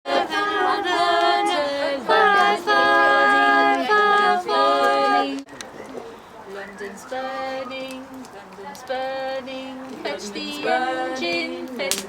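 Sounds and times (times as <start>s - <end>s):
group singing unaccompanied: 0.0s - 5.6s, 6.5s - 12.0s.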